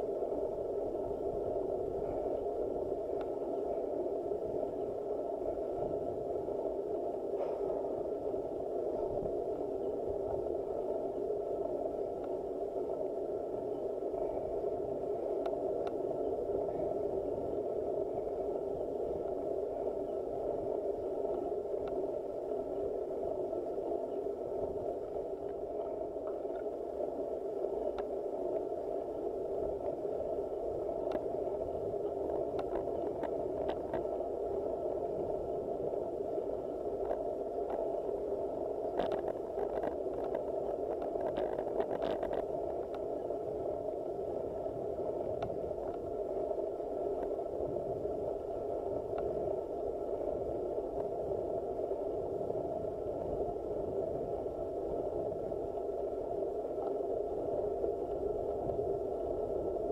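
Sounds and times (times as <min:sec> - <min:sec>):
faint steady tone: 0:00.0 - 0:59.9.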